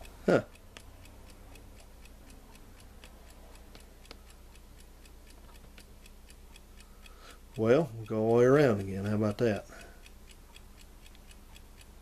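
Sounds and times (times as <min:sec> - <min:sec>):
clock ticking rapidly: 0:00.0 - 0:12.0
low electrical hum: 0:00.0 - 0:12.0.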